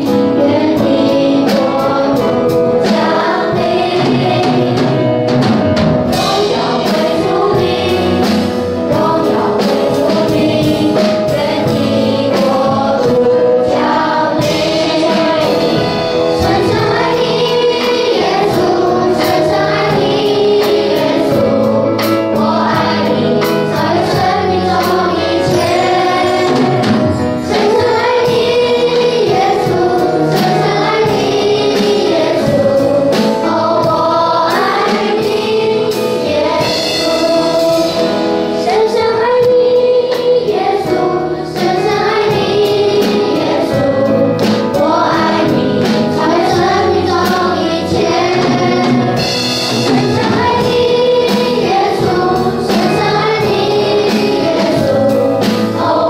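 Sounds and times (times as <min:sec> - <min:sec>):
children's choir singing: 0:00.0 - 0:56.0
instrumental accompaniment with beat: 0:00.0 - 0:56.0.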